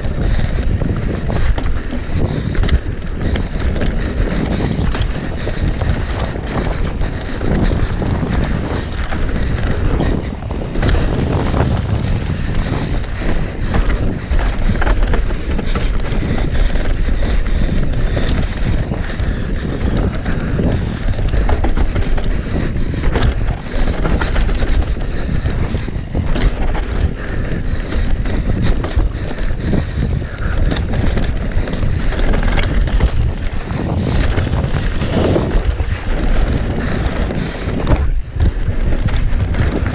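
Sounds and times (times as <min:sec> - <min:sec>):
bike knocks and rattles: 0:00.0 - 0:39.9
bike tyre noise on dirt: 0:00.0 - 0:39.9
wind buffeting microphone: 0:00.0 - 0:39.9.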